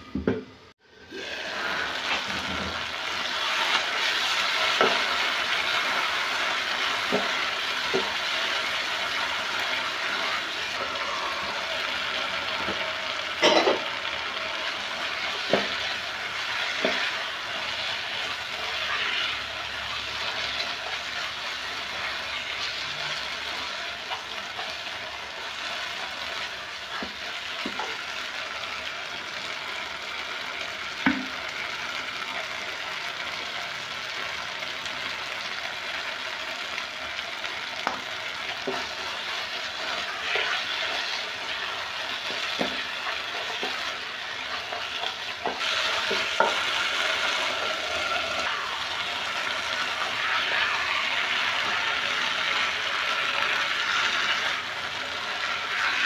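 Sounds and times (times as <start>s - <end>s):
stew sizzling in a pot: 0.8s - 56.0s.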